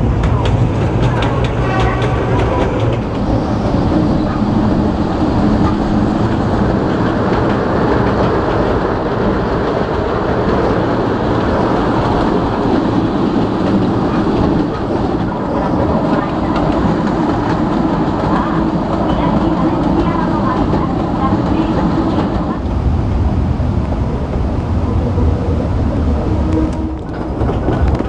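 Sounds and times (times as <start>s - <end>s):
train wheels rolling on rails: 0.0s - 28.0s.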